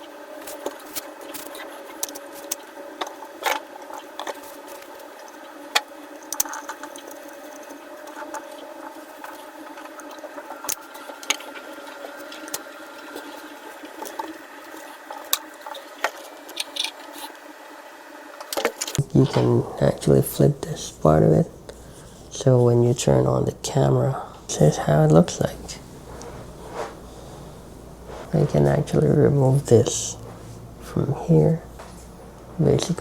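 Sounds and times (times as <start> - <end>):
background hum: 0.0 - 33.0.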